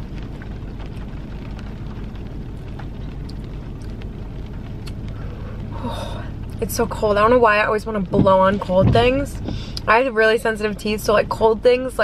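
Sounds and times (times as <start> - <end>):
rain rumbling on car: 0.0 - 12.0
raindrops tapping: 0.0 - 12.0.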